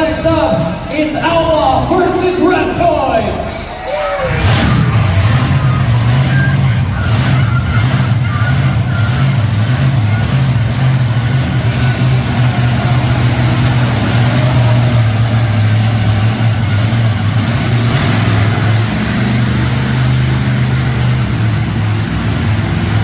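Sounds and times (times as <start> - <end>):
monster truck engines droning: 0.0 - 23.0.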